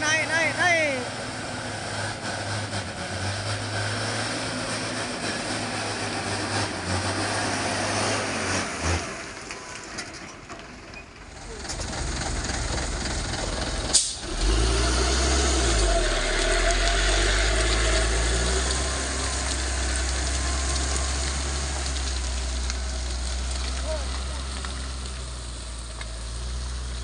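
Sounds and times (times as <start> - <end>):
diesel truck engine hum: 0.0 - 27.0.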